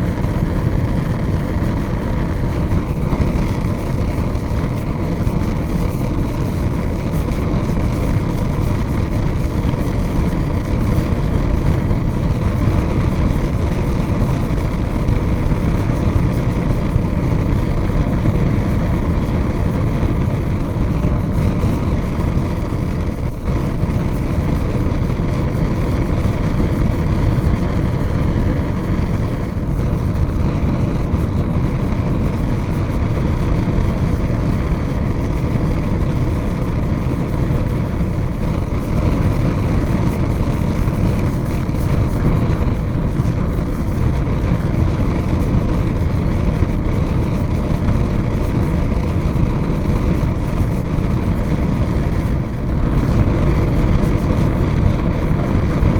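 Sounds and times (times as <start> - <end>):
large fire rumbling: 0.0 - 55.9.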